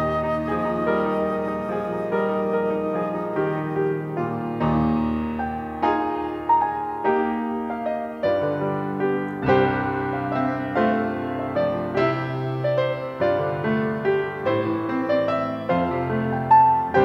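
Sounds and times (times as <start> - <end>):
slow gentle piano piece: 0.0 - 17.0.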